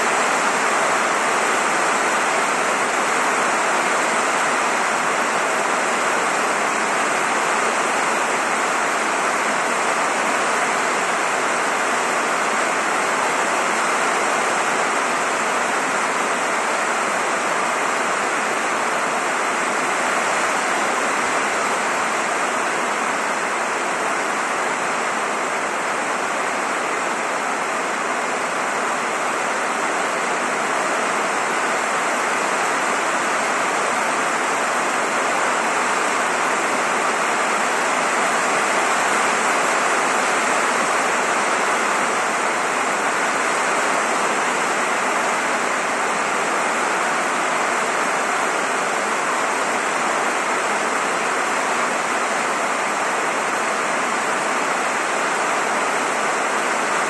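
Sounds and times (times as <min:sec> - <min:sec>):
heavy rain drumming on roof: 0:00.0 - 0:57.0.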